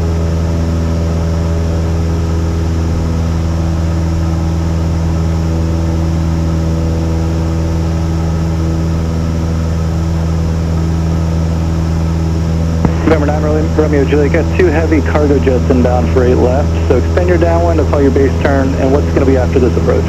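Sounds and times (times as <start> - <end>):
airplane engine and propeller drone: 0.0 - 20.0.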